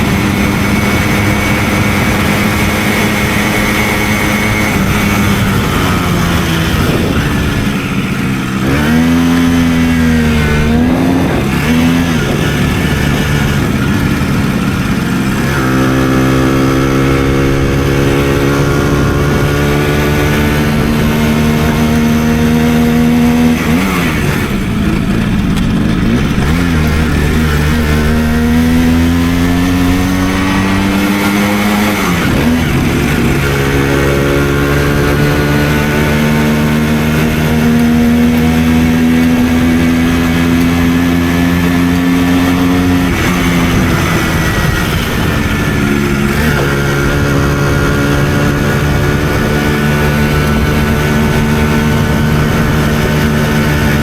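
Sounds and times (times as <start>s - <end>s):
two-stroke moped engine revving: 0.0s - 54.0s.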